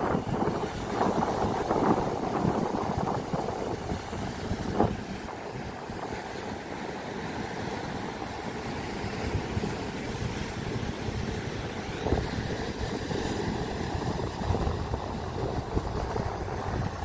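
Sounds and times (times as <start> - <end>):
wind buffeting microphone: 0.0 - 6.7, 8.8 - 17.0
breaking surf: 0.0 - 17.0.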